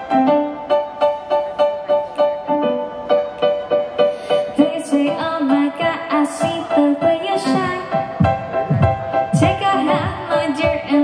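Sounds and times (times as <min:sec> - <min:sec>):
electric keyboard chords: 0:00.0 - 0:11.0.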